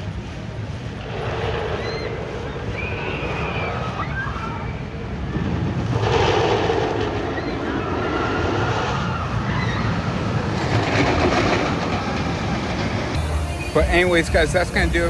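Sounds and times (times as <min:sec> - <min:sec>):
distant voices: 0:00.0 - 0:15.0
mechanical rumble: 0:00.0 - 0:15.0.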